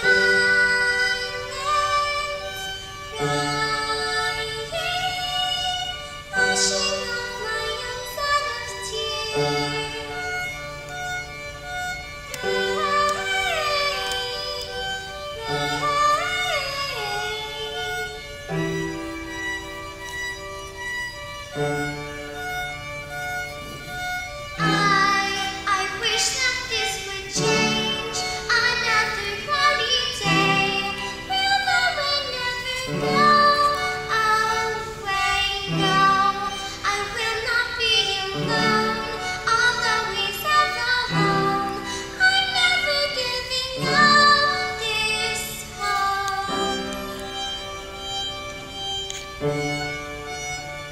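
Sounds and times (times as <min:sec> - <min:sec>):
girl singing: 0:00.0 - 0:11.0, 0:12.0 - 0:18.5, 0:24.6 - 0:48.4
piano chords: 0:00.0 - 0:50.9
violin: 0:00.0 - 0:50.9.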